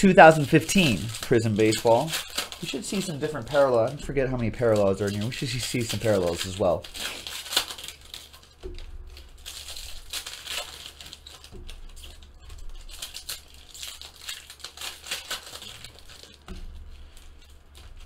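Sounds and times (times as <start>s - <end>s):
cards rustling: 0.0s - 18.0s
foil wrapper crinkling: 0.0s - 18.0s.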